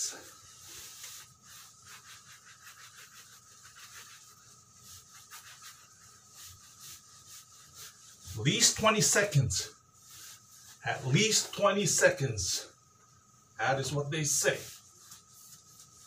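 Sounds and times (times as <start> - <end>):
paper wipe rubbing on glass: 0.0 - 11.6, 14.2 - 16.0.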